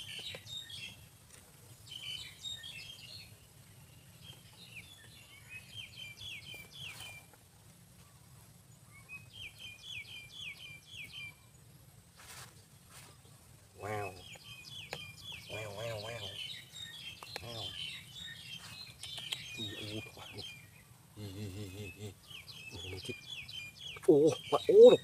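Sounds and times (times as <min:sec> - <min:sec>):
small bird chirping: 0:00.0 - 0:07.4, 0:08.0 - 0:25.0.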